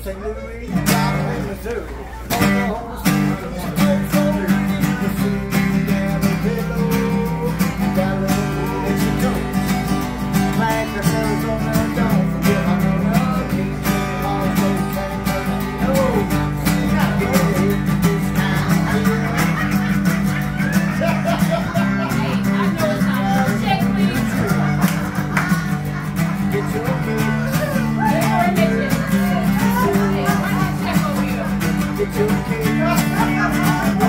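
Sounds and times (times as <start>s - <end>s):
acoustic guitars strumming: 0.0s - 34.0s.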